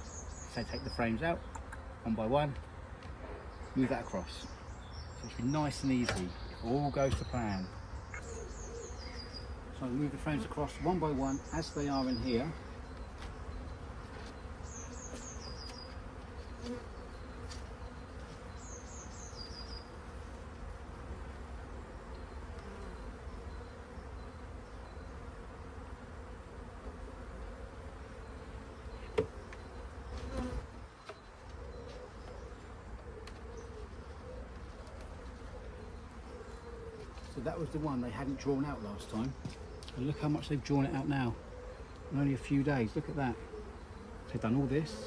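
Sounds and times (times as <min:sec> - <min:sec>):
honeybees buzzing: 0:00.0 - 0:45.0.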